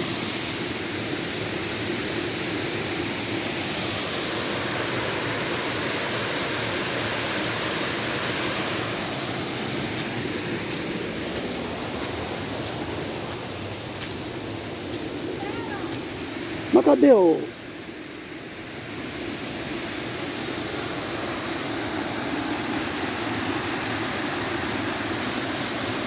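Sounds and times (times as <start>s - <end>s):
river rapids and waterfall rushing: 3.2s - 17.6s, 18.5s - 26.0s.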